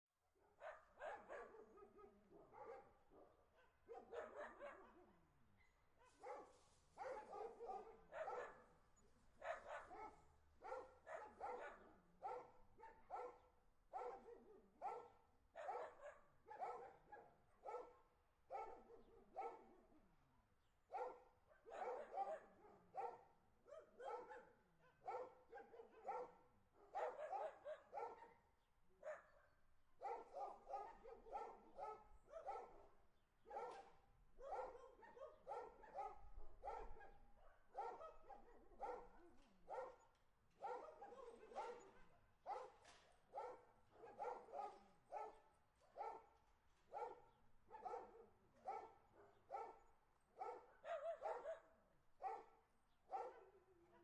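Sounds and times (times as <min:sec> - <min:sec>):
dog barking: 0:00.4 - 0:05.4, 0:06.0 - 0:20.1, 0:20.9 - 0:54.0.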